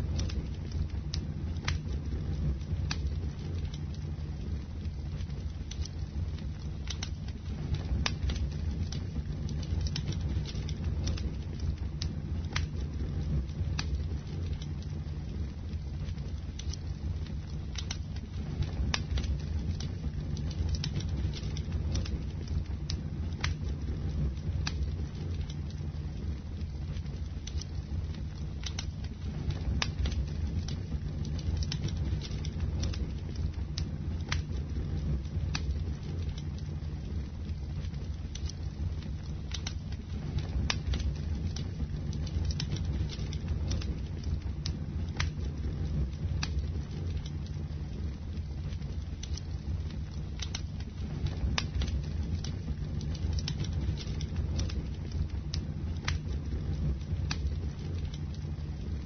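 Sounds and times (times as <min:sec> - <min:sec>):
burning wood crackling and popping: 0:00.0 - 0:59.0
rumble of flames: 0:00.0 - 0:59.0.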